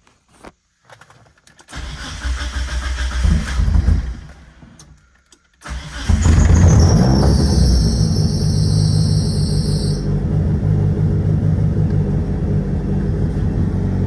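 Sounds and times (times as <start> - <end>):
car engine starting: 1.7 - 4.8, 5.6 - 14.0.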